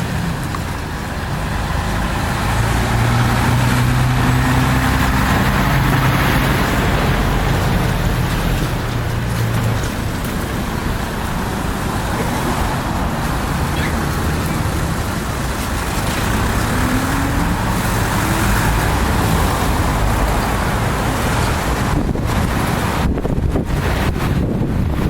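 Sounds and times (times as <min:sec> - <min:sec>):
passing road traffic: 0:00.0 - 0:25.0
wind buffeting microphone: 0:00.0 - 0:25.0.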